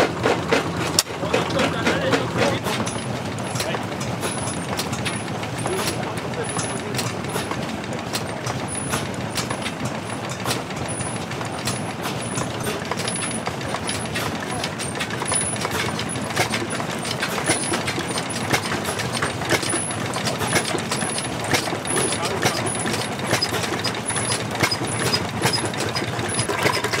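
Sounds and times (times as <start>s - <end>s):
old engines clattering: 0.0s - 27.0s.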